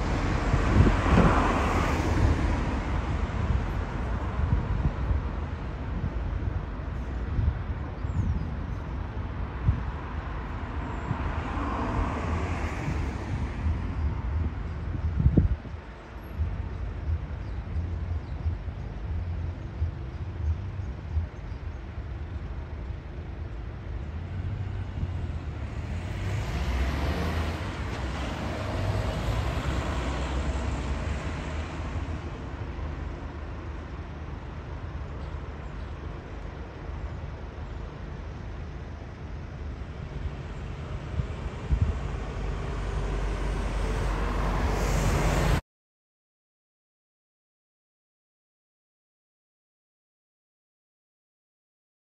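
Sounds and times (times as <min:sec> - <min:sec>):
wind buffeting microphone: 0:00.0 - 0:35.1, 0:36.8 - 0:45.6.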